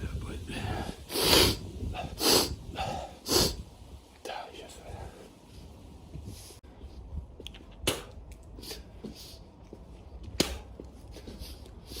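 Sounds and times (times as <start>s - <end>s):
soft hissy sounds: 0.0s - 10.2s
steady low rumble: 0.0s - 12.0s.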